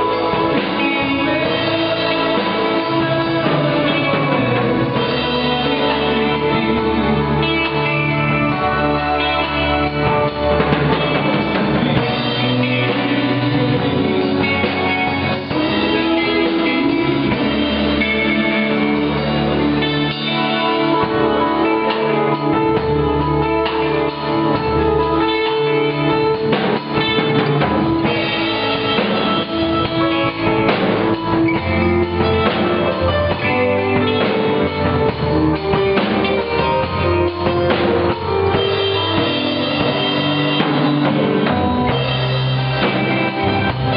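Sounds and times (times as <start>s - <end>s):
drum kit: 0.0s - 43.9s
electric guitar: 0.0s - 43.9s
rock band playing: 0.0s - 43.9s.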